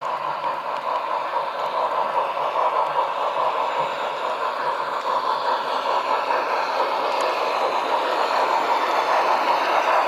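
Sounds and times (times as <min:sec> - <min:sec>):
model train running: 0:00.0 - 0:10.0
wheels on rails: 0:00.0 - 0:10.0.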